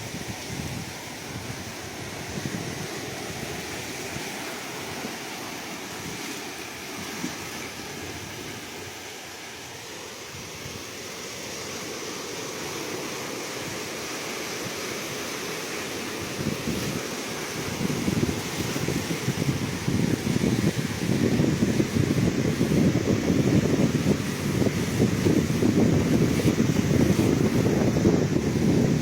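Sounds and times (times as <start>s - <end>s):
sea waves washing on shore: 0.0s - 29.0s.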